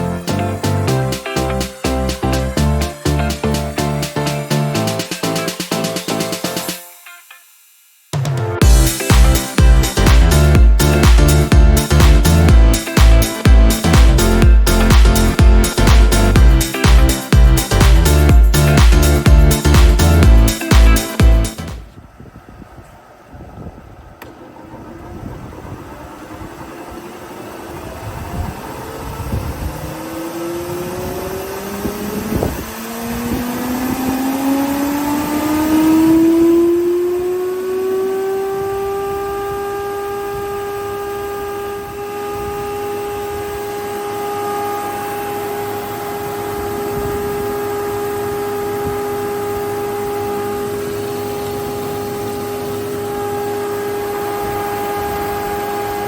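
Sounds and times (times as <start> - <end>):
thicknesser motor whine: 0.0 - 6.9, 8.1 - 56.0.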